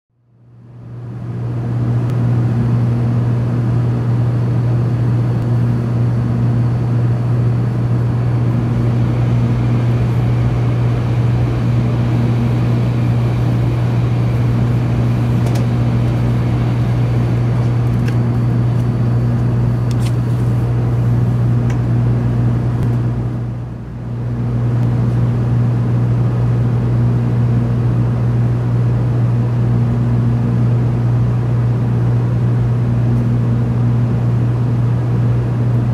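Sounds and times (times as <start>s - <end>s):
low hum inside train car: 0.2s - 35.9s.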